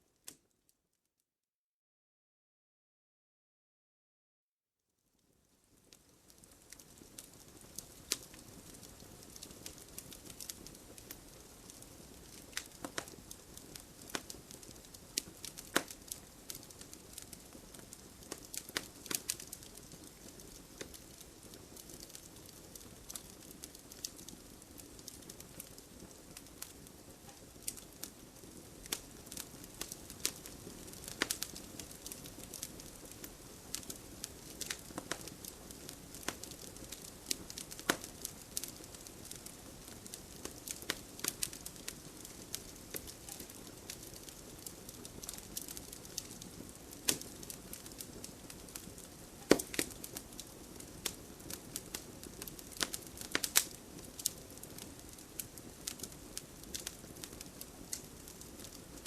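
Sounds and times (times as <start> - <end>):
wood fire crackling and popping: 5.2 - 59.0.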